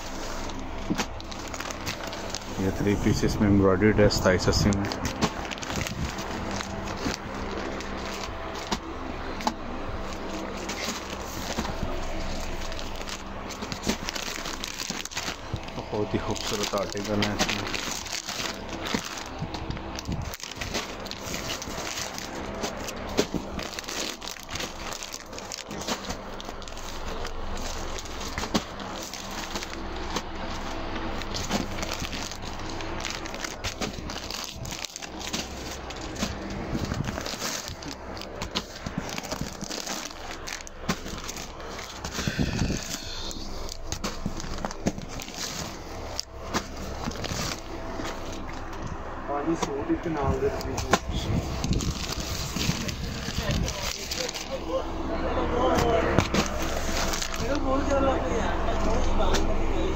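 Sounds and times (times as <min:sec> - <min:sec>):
plastic packets crinkling: 0:00.0 - 0:54.8, 0:55.7 - 0:59.5.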